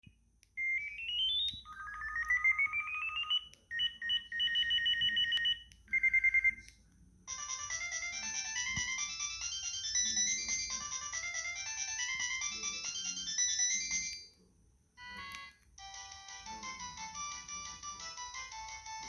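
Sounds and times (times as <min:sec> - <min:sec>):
melody ringtone: 0:00.6 - 0:06.6, 0:07.3 - 0:14.3, 0:15.0 - 0:19.0
phone ringtone beeps: 0:00.6 - 0:06.6, 0:07.3 - 0:14.3, 0:15.0 - 0:19.0.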